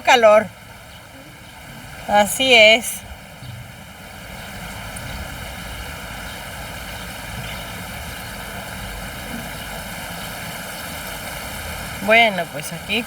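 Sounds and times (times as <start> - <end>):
river rushing in flood: 0.0 - 13.0.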